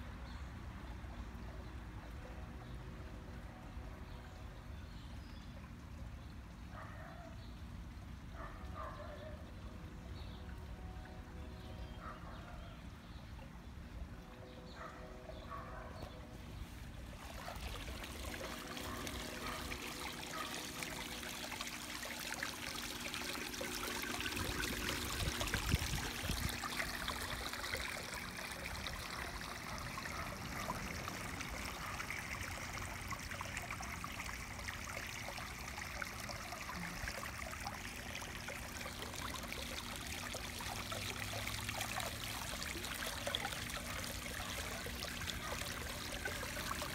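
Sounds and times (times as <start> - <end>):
fountain water trickling: 0.0 - 46.9.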